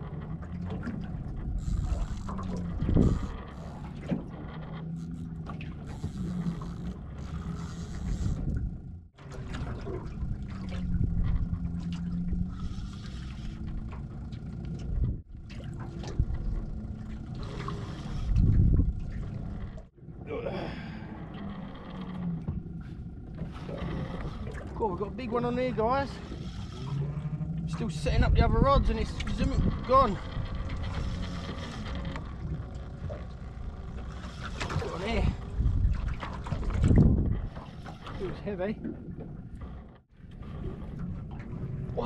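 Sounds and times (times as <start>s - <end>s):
water around a boat: 0.0s - 42.0s
wind: 0.0s - 42.0s.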